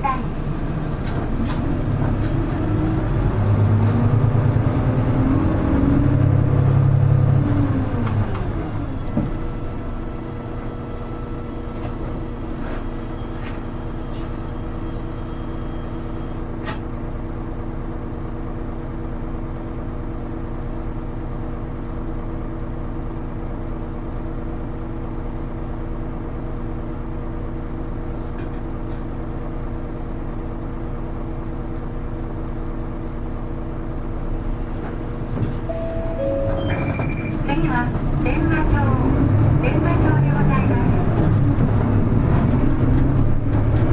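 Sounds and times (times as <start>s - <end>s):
road noise: 0.0s - 19.3s, 23.6s - 43.9s
bus engine drone: 0.0s - 43.9s.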